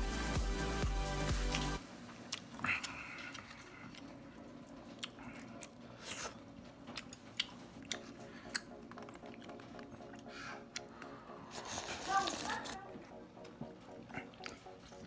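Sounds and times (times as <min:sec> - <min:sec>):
person chewing noodles: 0:01.4 - 0:12.8, 0:13.9 - 0:15.0.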